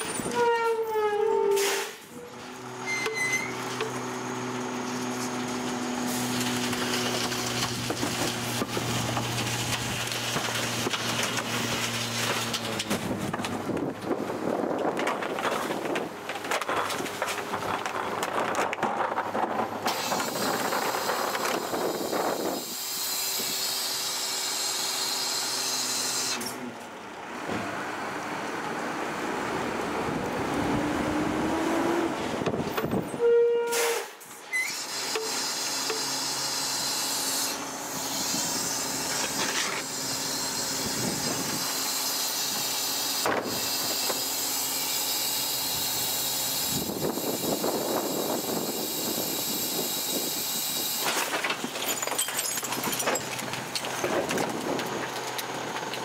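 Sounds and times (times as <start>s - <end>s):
garbage packer blade working: 0.0s - 24.8s, 34.2s - 56.0s.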